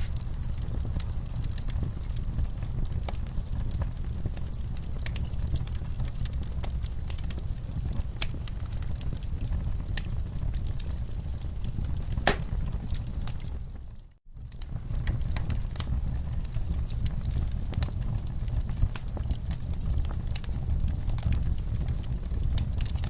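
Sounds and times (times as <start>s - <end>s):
sharp fire pops: 0.0s - 13.8s, 14.4s - 23.0s
low rush of flames: 0.0s - 23.0s
wood fire crackling: 0.0s - 23.0s.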